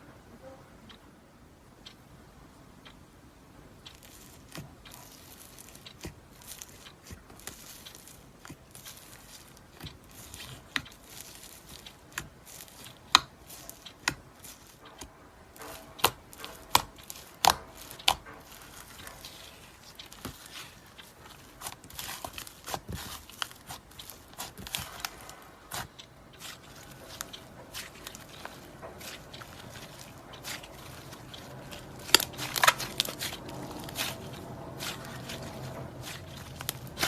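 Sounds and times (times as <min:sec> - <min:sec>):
slime popping and crackling: 0:03.9 - 0:37.0.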